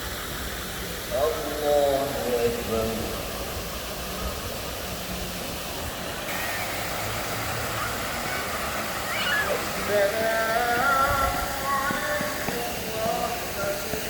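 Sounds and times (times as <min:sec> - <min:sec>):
city traffic hum: 0:00.0 - 0:14.0.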